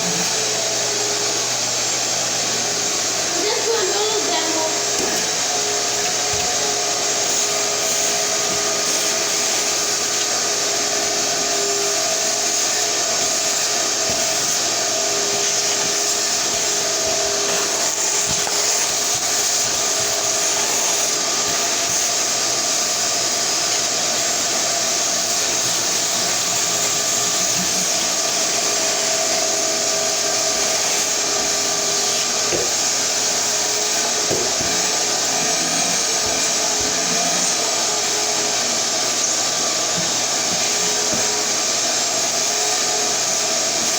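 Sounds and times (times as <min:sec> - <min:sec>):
vacuum cleaner running: 0:00.0 - 0:43.9
vacuum motor whine: 0:00.0 - 0:43.9.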